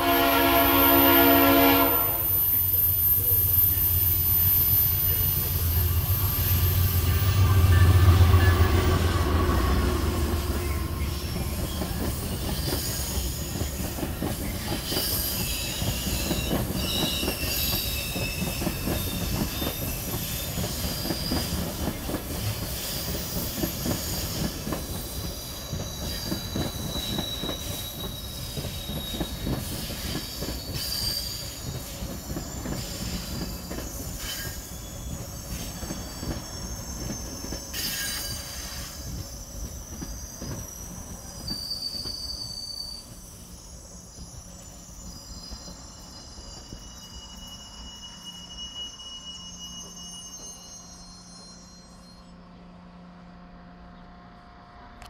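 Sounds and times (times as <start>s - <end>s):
train clatter on rails: 0.0s - 47.8s
train wheels squealing: 0.0s - 53.4s.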